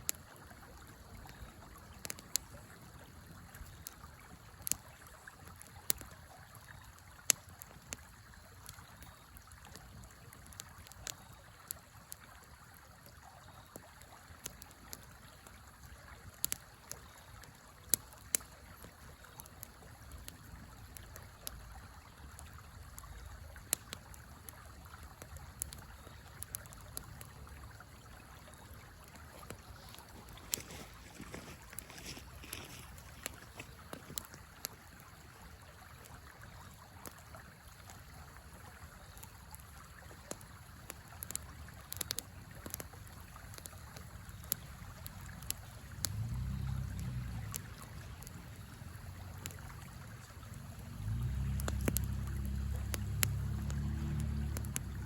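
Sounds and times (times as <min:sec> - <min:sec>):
flowing river: 0:00.0 - 0:55.0
wood fire crackling and popping: 0:00.0 - 0:55.0.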